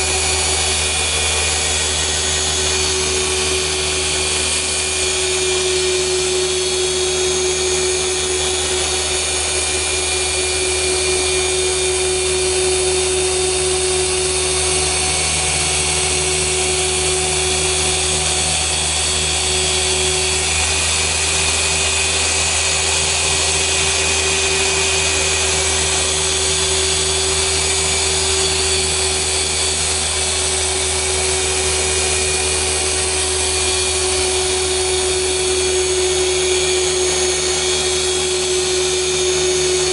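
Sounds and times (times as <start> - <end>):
polisher motor running: 0.0 - 39.9.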